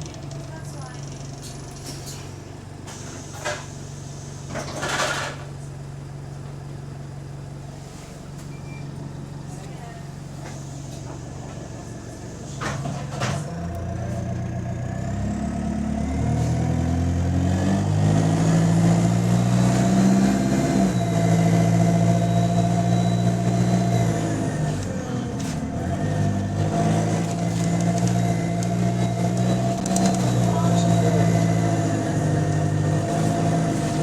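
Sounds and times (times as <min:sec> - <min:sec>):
bus engine accelerating: 0:00.0 - 0:34.0.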